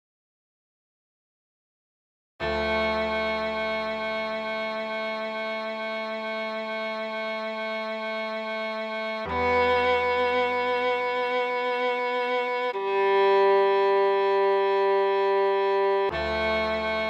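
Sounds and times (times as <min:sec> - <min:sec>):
cello playing slow melody: 0:02.4 - 0:17.0
low accompanying tone: 0:02.4 - 0:17.0.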